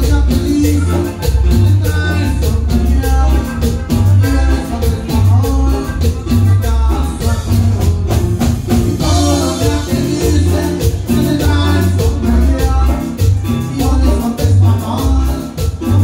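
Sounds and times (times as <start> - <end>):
accordion melody: 0.0 - 16.0
drum kit: 0.0 - 16.0
electric bass: 0.0 - 16.0
guitar: 0.0 - 16.0.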